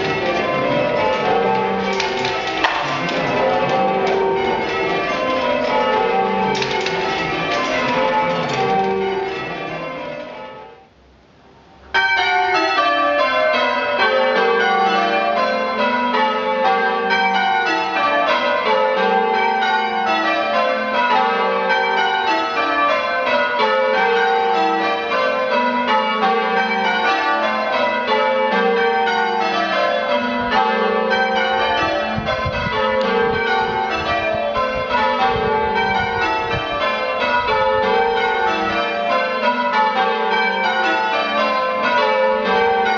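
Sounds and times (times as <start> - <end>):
church bells change ringing: 0.0 - 10.9, 11.8 - 42.9.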